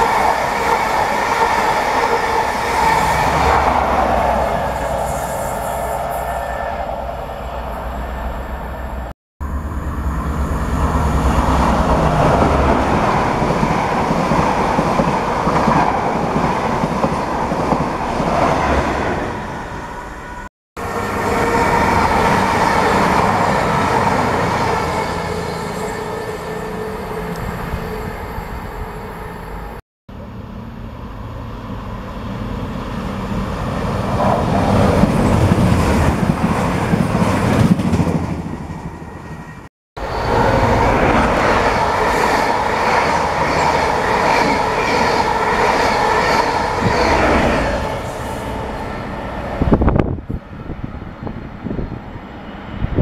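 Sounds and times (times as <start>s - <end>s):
diesel train passing: 0.0s - 53.0s.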